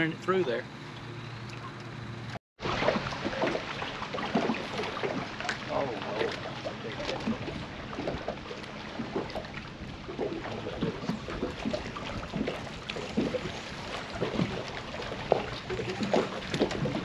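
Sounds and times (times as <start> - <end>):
waves lapping against boat hull: 0.0 - 17.0.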